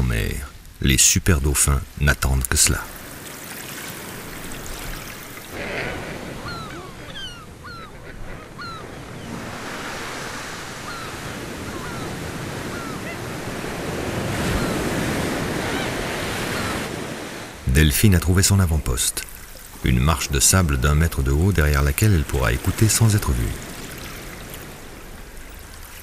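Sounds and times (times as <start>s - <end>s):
surf washing onto beach: 0.0s - 7.6s, 8.2s - 26.0s
birds chirping: 2.4s - 26.0s.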